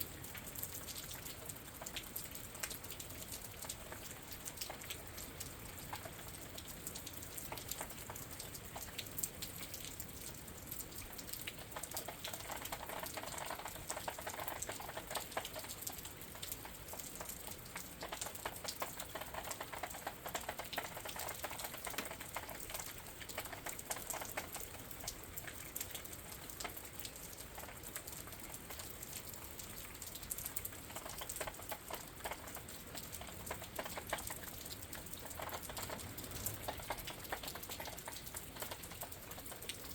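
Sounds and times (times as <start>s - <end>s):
rain patter heard through window: 0.0s - 39.9s.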